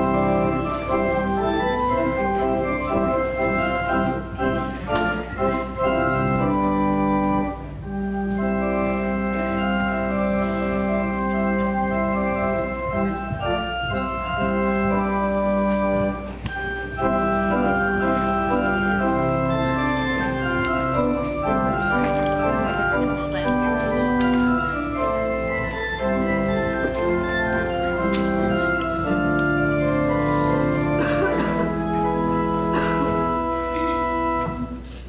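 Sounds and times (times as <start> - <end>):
organ playing held chords: 0.0 - 34.9.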